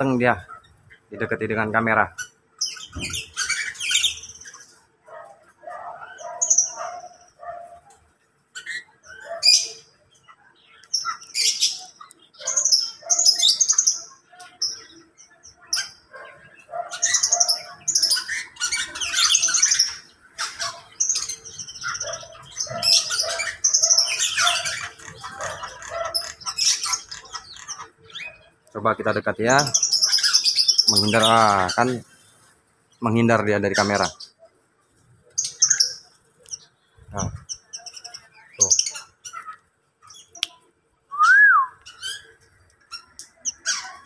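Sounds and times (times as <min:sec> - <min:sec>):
cage birds chirping: 0:00.0 - 0:44.0
low repeated bird call notes: 0:00.0 - 0:44.0.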